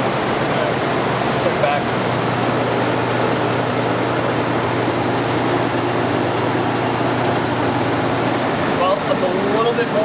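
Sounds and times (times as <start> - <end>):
constant low hum: 0.0 - 10.0
cooling fans blowing: 0.0 - 10.0.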